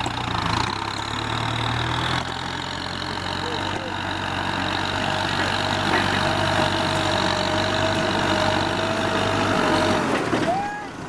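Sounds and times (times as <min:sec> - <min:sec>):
tractor engine under load: 0:00.0 - 0:11.0.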